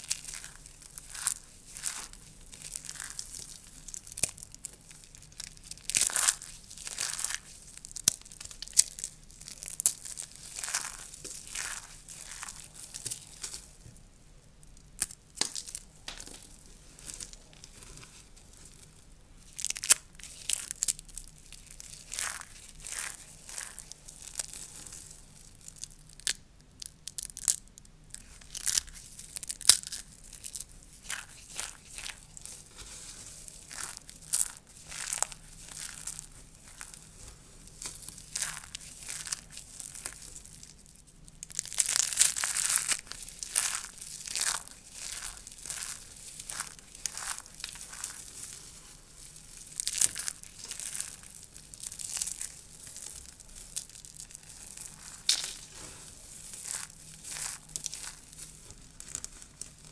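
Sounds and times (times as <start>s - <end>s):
dry soap crunching and crackling: 0.0s - 59.9s.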